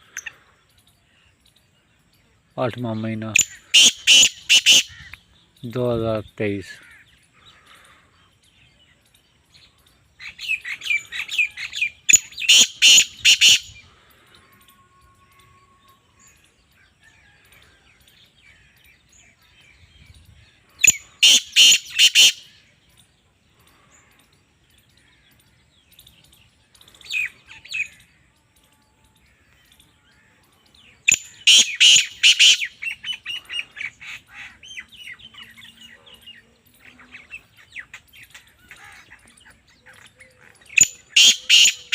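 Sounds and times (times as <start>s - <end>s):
bird calling harsh rhythmic notes: 0.0s - 28.6s, 29.2s - 41.9s.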